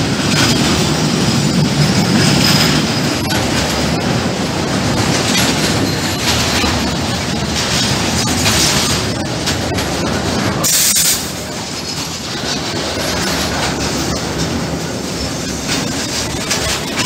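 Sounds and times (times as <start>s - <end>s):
freight train rumbling past: 0.0s - 17.0s
wheels clacking over rail joints: 0.0s - 17.0s.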